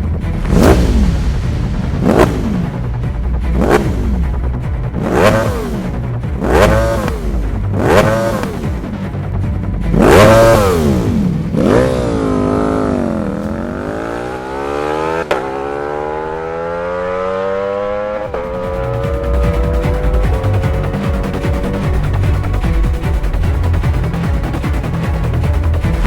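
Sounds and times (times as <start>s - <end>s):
background music: 0.0s - 26.0s
motorcycle engine revving: 0.0s - 26.0s.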